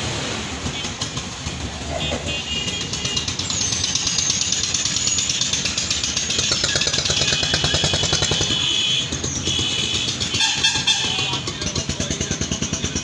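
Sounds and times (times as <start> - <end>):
street traffic: 0.0 - 13.0
vehicle engine puttering: 0.0 - 13.0.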